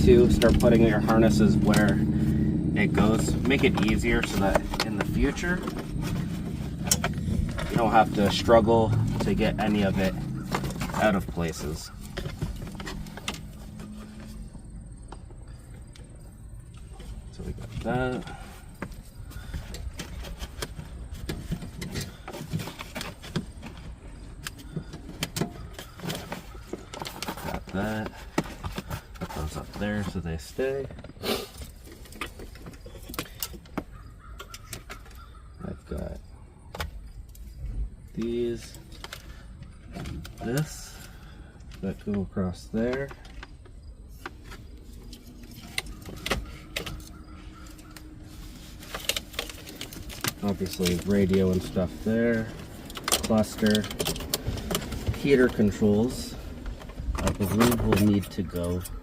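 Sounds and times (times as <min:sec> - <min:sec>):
hands handling plastic car parts: 0:03.0 - 0:59.0.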